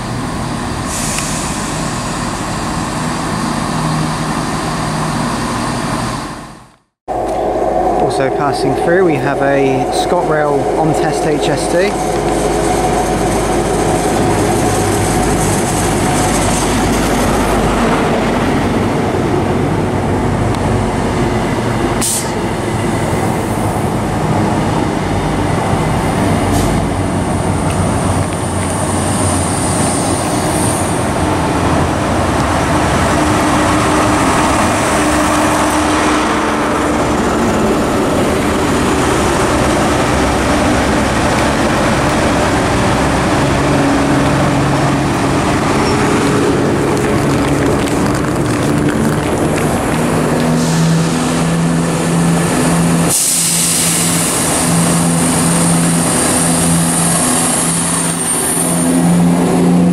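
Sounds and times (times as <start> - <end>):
diesel engine drone: 0.0 - 59.9
train wheels rumbling on rails: 0.0 - 59.9.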